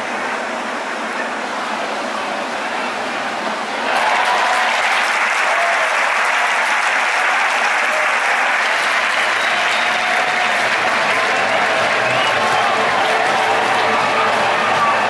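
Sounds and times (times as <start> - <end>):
stadium crowd cheering and applauding: 2.6 - 15.0.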